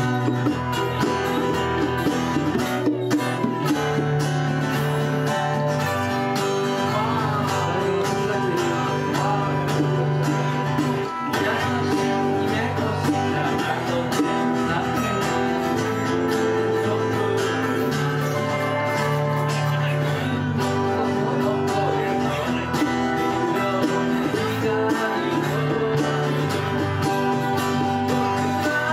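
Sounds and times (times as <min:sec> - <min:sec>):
acoustic guitars strumming: 0:00.0 - 0:28.9
keyboard chords: 0:00.0 - 0:28.9.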